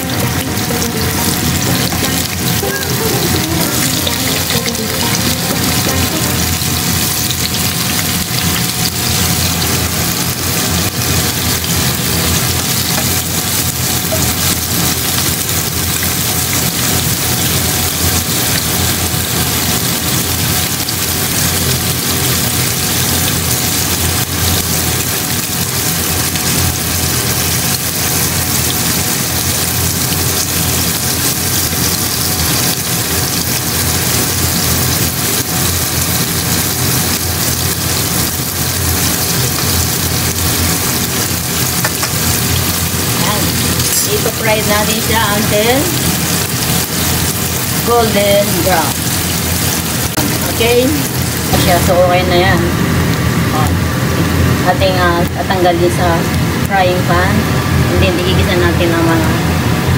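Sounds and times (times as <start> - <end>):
tofu sizzling in hot oil: 0.0 - 56.7.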